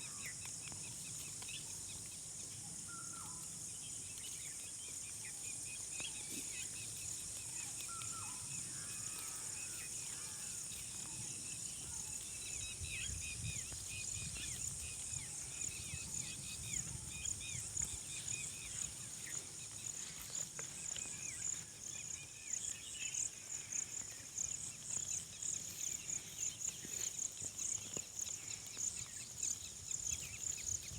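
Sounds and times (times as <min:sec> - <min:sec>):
insects trilling: 0:00.0 - 0:30.9.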